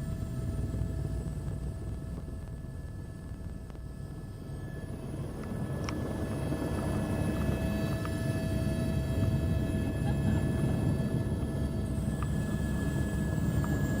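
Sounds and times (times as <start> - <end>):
helicopter rotor rumble: 0.0 - 14.0
high turbine whine: 0.0 - 14.0.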